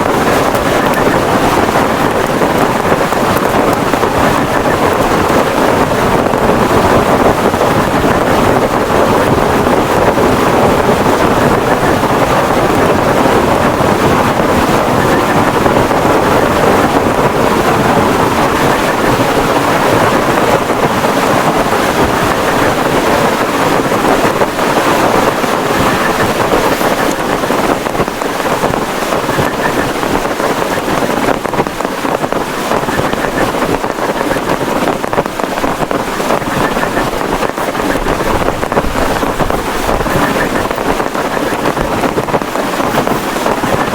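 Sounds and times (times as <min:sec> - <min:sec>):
heavy rain: 0:00.0 - 0:43.9
strong wind: 0:00.0 - 0:43.9.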